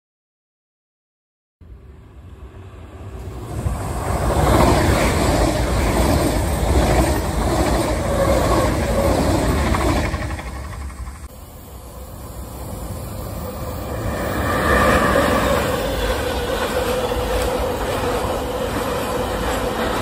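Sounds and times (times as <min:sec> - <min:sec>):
high-speed train passing: 0:01.6 - 0:20.0.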